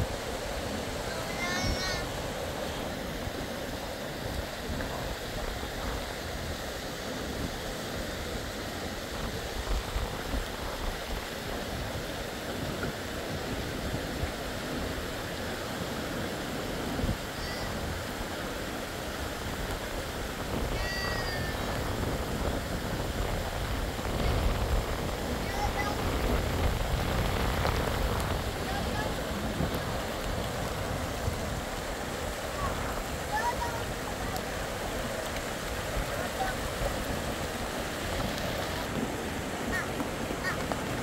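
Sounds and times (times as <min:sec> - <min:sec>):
heavy rain hiss: 0:00.0 - 0:41.0.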